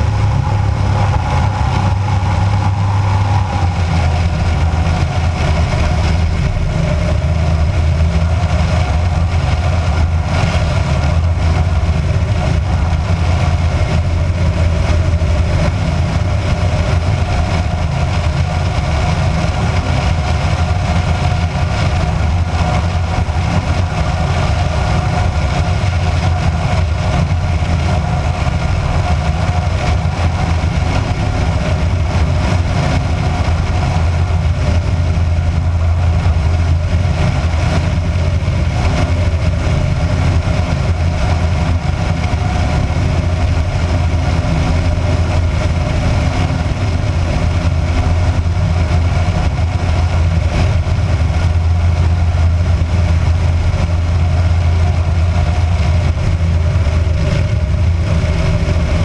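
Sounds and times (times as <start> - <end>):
light aircraft engine droning: 0.0 - 59.0
wind rushing over camera: 0.0 - 59.0.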